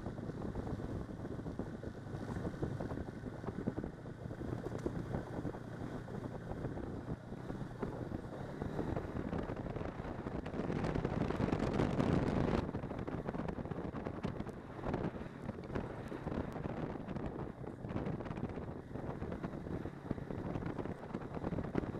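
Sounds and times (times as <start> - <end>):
snowmobile engine drone: 0.0 - 21.9
wind buffeting microphone: 0.0 - 21.9.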